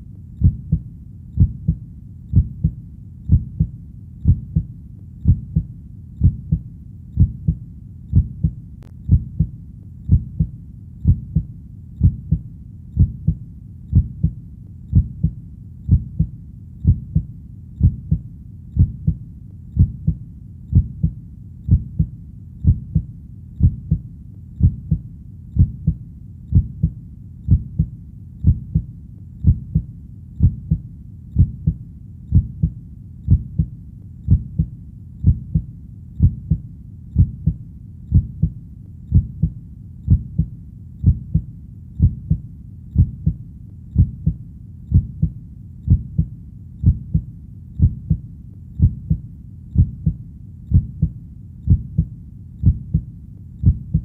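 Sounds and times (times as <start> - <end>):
heartbeat thudding: 0.0 - 19.2, 19.8 - 48.2, 48.8 - 54.0.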